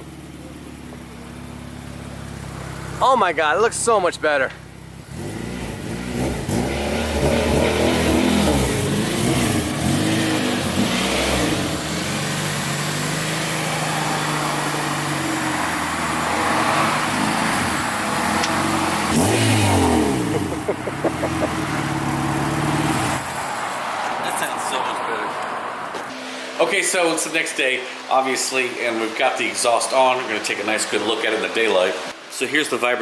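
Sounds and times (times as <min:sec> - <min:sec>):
car engine revving: 0:00.0 - 0:32.2.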